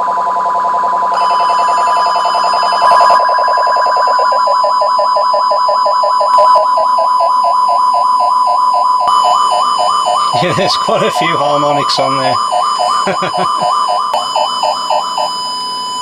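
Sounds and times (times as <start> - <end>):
warbling pulsing electronic tone: 0.0 - 15.4.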